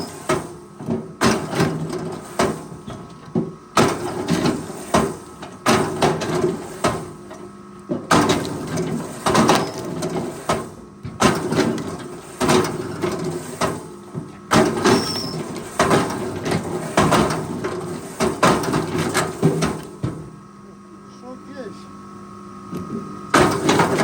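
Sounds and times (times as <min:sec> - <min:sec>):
heavy knocks and clatters: 0:00.8 - 0:20.3.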